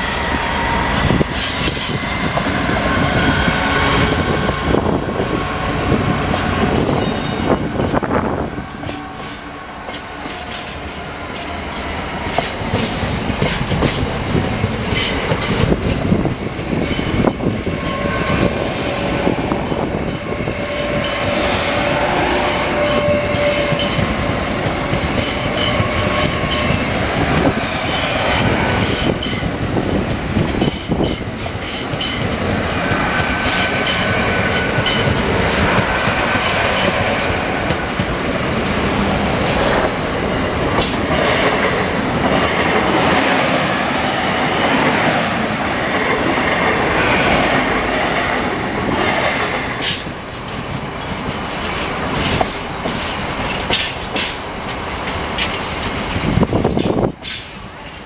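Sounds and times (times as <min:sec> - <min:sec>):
train rumble: 0:00.0 - 0:58.0
train wheels clacking over rails: 0:00.0 - 0:58.0.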